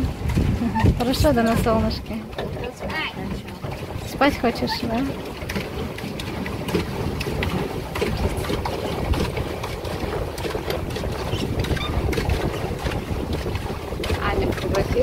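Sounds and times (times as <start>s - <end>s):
paddle wheel churning water: 0.0s - 15.0s
wind on microphone: 0.0s - 15.0s.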